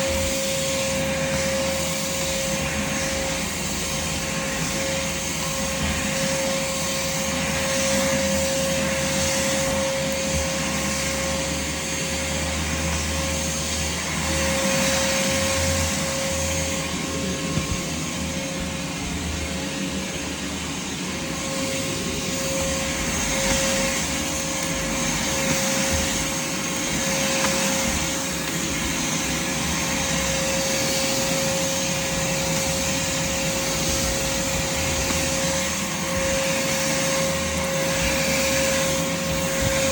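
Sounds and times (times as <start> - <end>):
shop vac running: 0.0 - 39.9.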